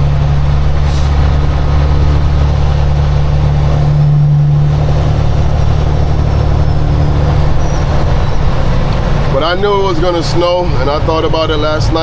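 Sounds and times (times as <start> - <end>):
diesel truck engine droning: 0.0 - 12.0
road noise: 0.0 - 12.0.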